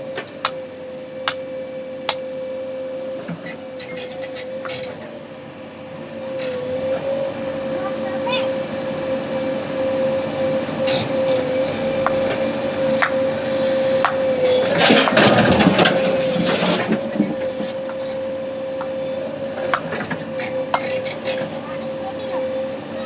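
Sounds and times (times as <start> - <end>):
backhoe loader whining: 0.0 - 23.0.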